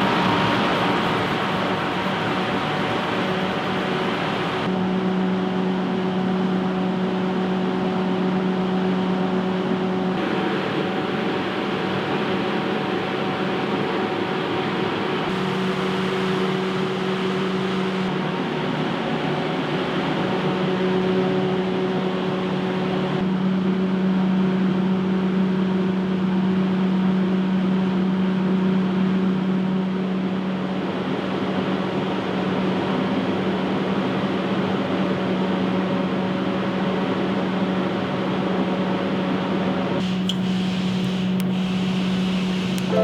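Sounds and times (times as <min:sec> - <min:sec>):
machine running with hum: 0:00.0 - 0:33.4, 0:40.0 - 0:43.0.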